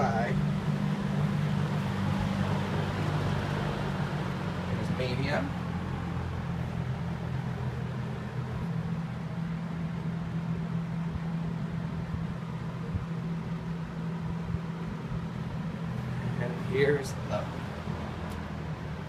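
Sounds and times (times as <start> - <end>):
box fan running: 0.0 - 19.0.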